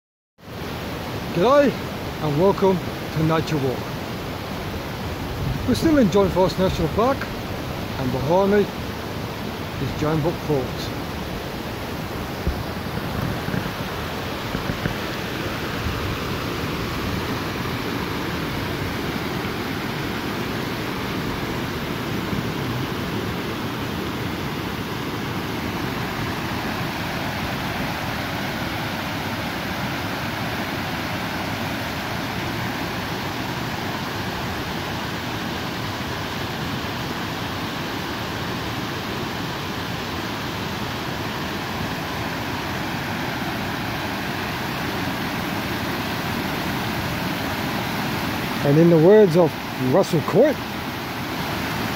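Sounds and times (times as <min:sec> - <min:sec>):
waterfall rushing: 0:00.5 - 0:51.9.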